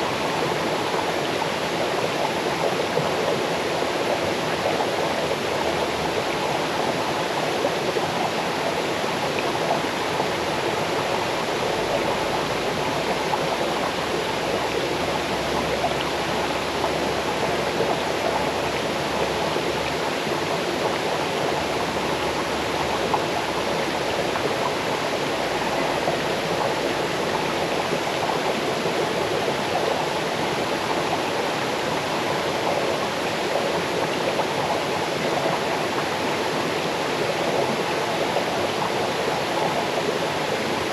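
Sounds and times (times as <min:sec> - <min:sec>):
small waterfall rushing over stones: 0:00.0 - 0:40.9.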